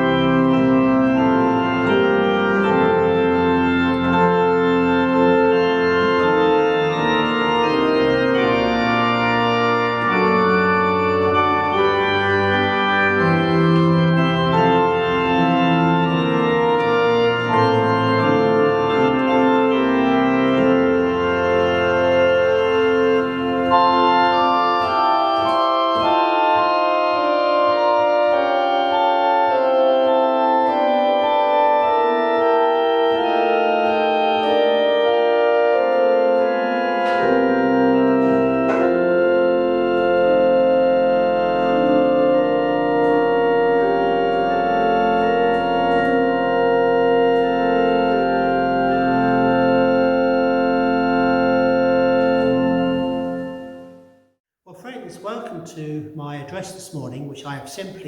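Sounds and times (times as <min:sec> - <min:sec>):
deep organ bass notes: 0:00.0 - 0:54.0
organ playing slow chords: 0:00.0 - 0:58.0.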